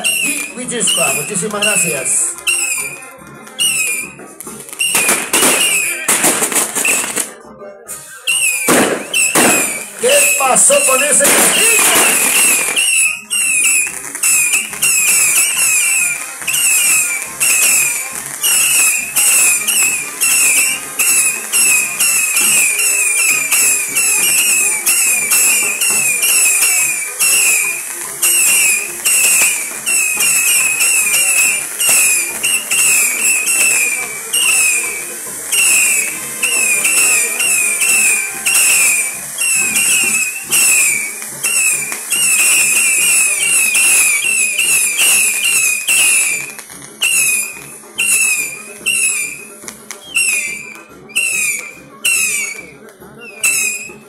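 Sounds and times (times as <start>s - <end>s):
firework wheels whistling and hissing: 0.0s - 54.0s.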